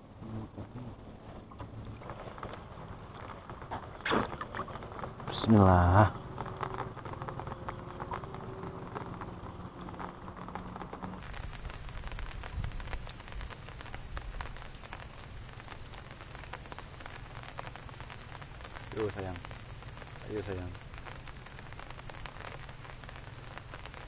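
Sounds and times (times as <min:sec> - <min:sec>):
light rain pattering: 0:00.0 - 0:24.0.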